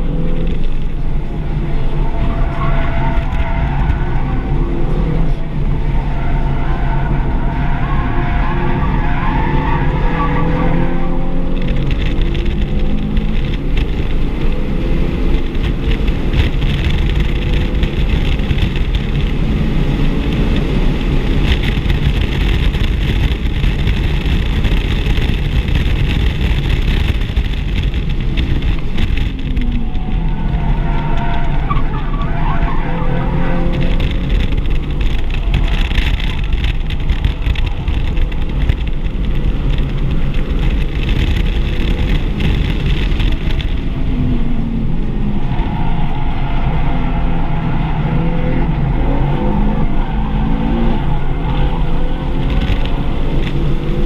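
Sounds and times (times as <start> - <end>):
car engine running hard: 0.0 - 54.0
wind and tyre roar: 0.0 - 54.0.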